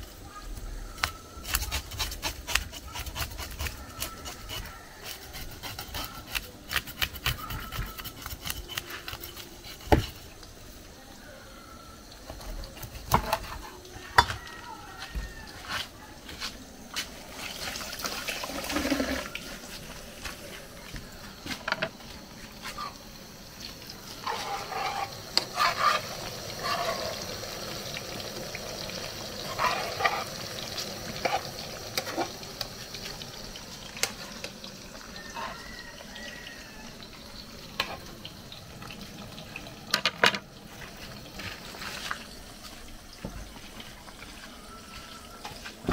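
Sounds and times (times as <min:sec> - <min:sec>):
plantain frying in oil: 0:00.0 - 0:45.9.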